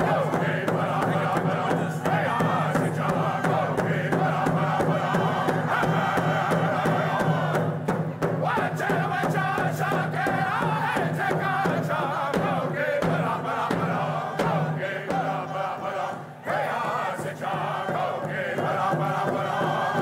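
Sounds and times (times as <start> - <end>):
group chanting: 0.0 - 20.0
hand drums beating: 0.0 - 20.0.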